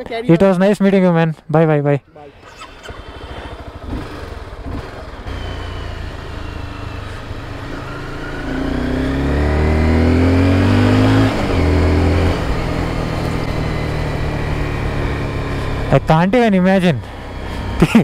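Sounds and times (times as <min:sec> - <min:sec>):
motorcycle engine revving: 0:02.2 - 0:18.0.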